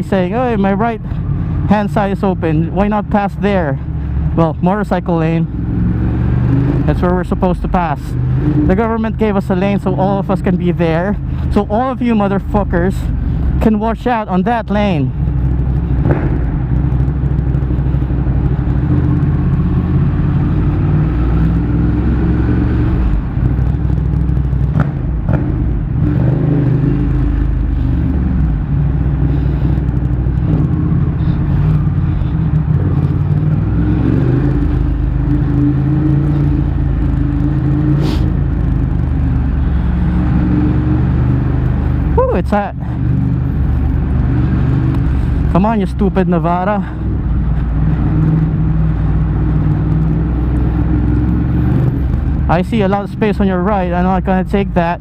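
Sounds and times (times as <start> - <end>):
motorcycle engine running: 0.0 - 55.0
road rumble: 0.0 - 55.0.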